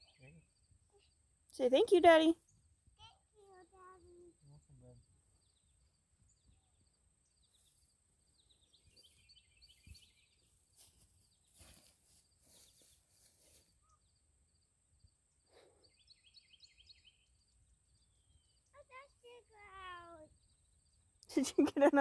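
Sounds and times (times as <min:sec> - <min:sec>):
faint bird chirps: 0:00.0 - 0:01.3, 0:02.4 - 0:21.4.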